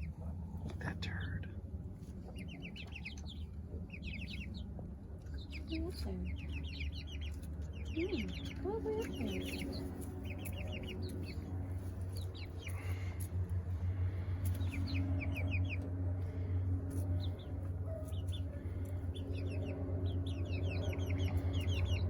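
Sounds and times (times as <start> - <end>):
chicks peeping: 0.0 - 22.0
steady low hum: 0.0 - 22.0.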